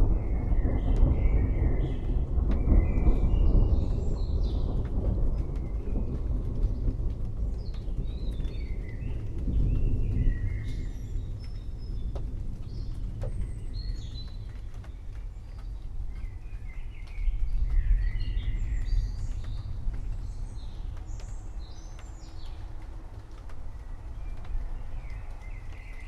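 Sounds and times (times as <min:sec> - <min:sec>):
distant thunder rumbling: 0:00.0 - 0:26.0.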